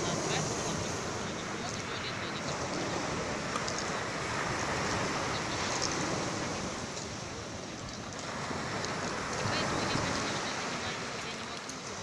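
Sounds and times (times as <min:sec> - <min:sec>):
waves washing up pebble beach: 0:00.0 - 0:12.0.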